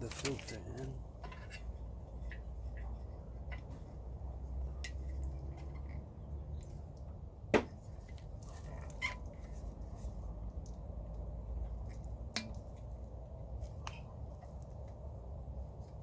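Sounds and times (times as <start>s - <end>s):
faint handling clicks and rustles: 0.0s - 16.0s
low steady hum: 0.0s - 16.0s.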